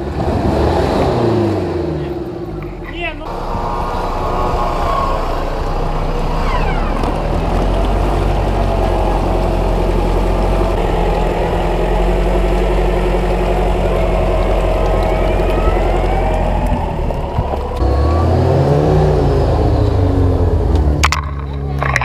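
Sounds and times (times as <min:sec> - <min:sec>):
engine running hard: 0:00.0 - 0:22.0.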